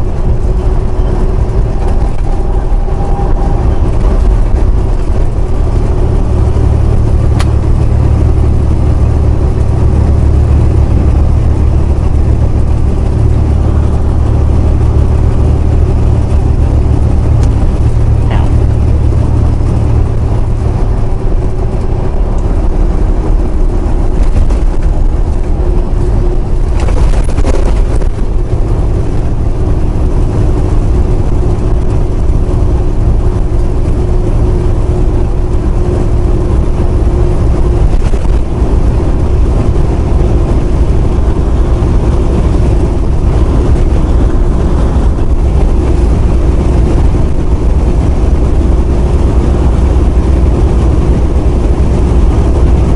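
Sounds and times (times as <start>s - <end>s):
road noise: 0.0s - 52.9s
truck engine drone: 0.0s - 52.9s.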